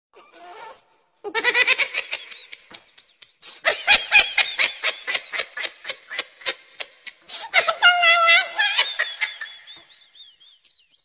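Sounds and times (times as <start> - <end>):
high-pitched laughter: 1.3 - 11.0.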